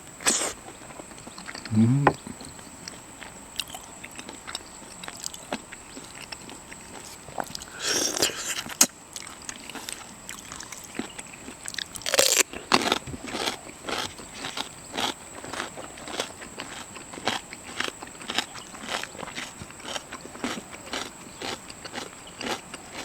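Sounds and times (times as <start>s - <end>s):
person chewing seafood: 0.0s - 23.0s.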